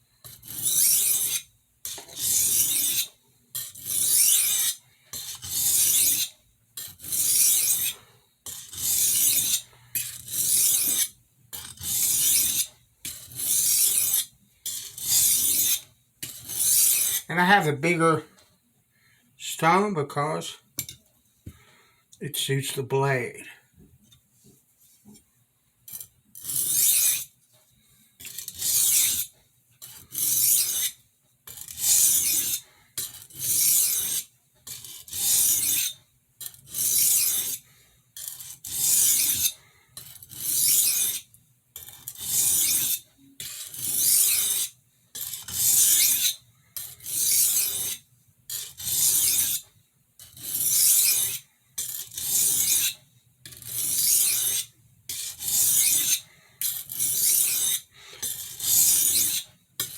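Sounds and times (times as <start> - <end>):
knife stroked on sharpening stone: 0.2 - 17.3, 20.8 - 21.0, 25.9 - 27.3, 28.2 - 59.9.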